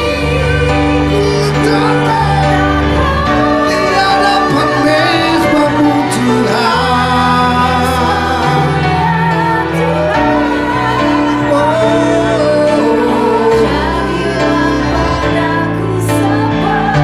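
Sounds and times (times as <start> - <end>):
slow worship song: 0.0 - 17.0
sung melody: 0.0 - 17.0.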